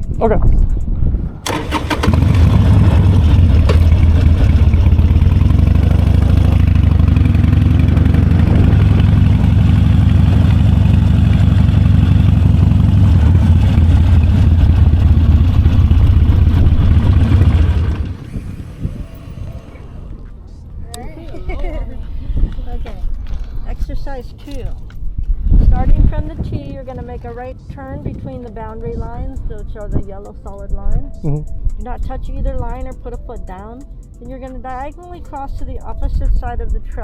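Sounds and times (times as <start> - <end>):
motorcycle engine running: 1.4 - 21.9, 25.6 - 37.0.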